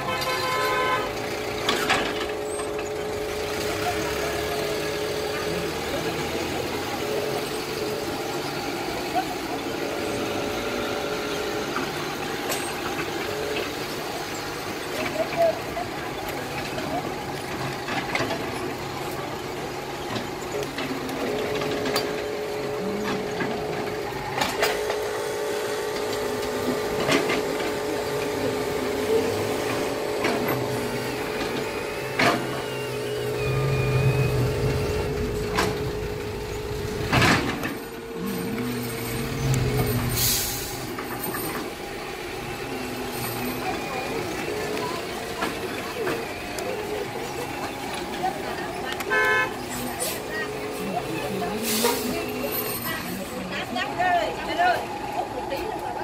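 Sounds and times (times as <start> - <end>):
gears and wheels clicking: 0.0 - 56.0
toy truck electric motors whining: 0.0 - 56.0.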